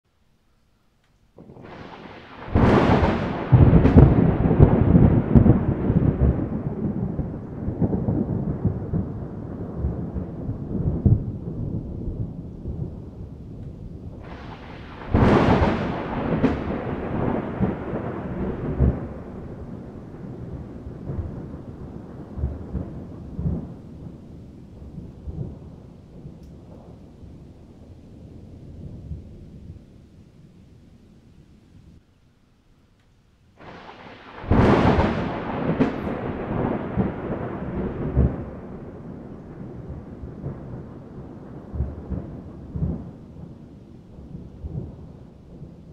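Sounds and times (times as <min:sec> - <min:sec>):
thunder crack and rumble: 0:01.4 - 0:30.0, 0:33.6 - 0:45.9.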